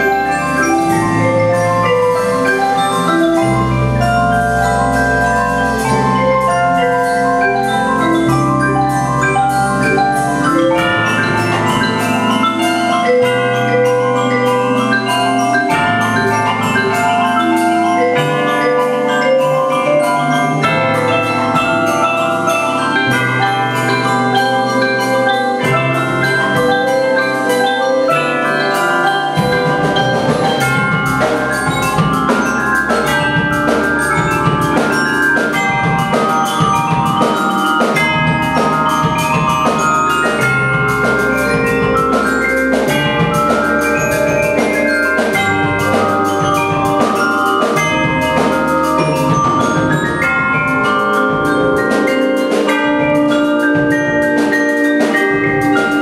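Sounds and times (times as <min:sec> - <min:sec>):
drum kit beat: 0:00.0 - 0:56.0
marimbas and xylophones playing: 0:00.0 - 0:56.0.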